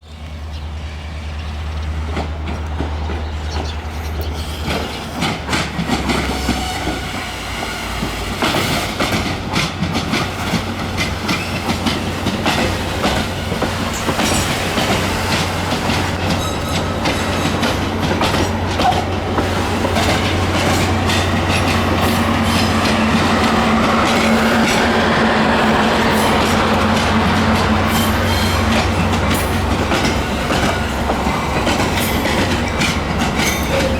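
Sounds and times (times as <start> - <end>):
low diesel locomotive drone: 0.0 - 33.9
wheels clicking over rail joints: 1.8 - 7.3, 8.0 - 25.2, 25.8 - 33.9.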